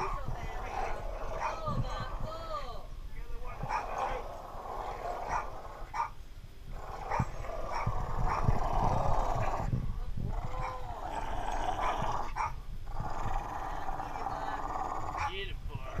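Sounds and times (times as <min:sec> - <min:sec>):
dog growling in play: 0:00.0 - 0:02.3, 0:03.4 - 0:06.1, 0:06.7 - 0:15.3.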